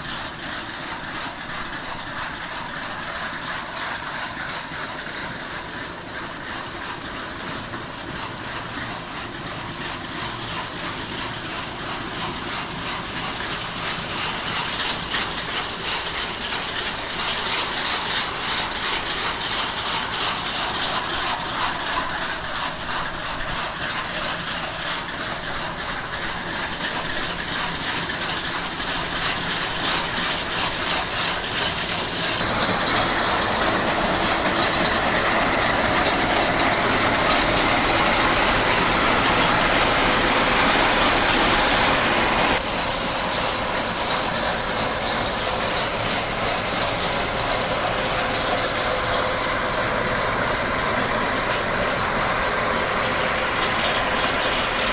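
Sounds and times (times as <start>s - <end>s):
combine harvester rattling: 0.0s - 54.9s.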